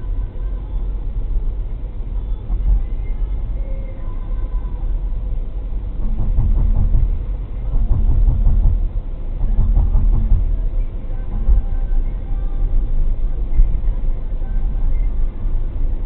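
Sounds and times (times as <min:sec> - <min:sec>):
car interior road and engine rumble: 0:00.0 - 0:16.0.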